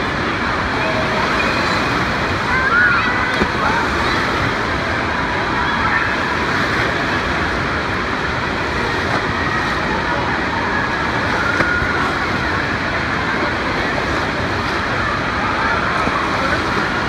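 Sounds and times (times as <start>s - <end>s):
faint voices: 0.0s - 17.0s
water churning and breaking: 0.0s - 17.0s.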